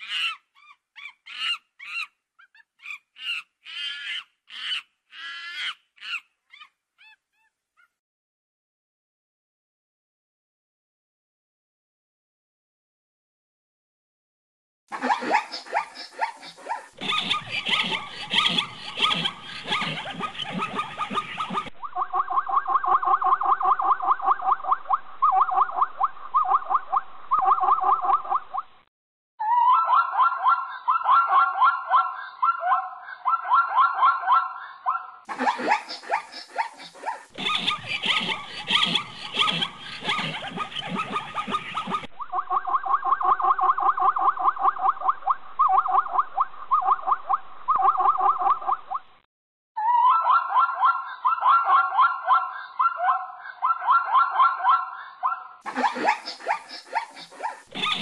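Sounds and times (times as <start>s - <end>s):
monkey high calls: 0.0s - 7.9s, 15.0s - 28.3s, 29.4s - 48.6s, 49.8s - 58.0s.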